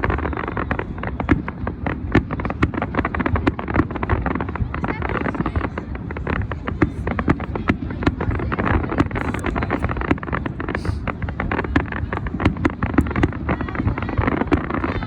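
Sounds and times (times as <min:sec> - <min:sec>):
fireworks bangs and crackles: 0:00.0 - 0:15.0
steady low rumble: 0:00.0 - 0:15.0.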